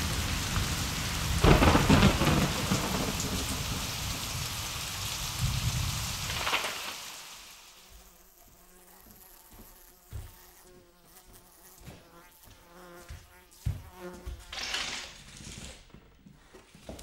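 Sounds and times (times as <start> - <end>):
flying insect buzzing: 0.0 - 15.1.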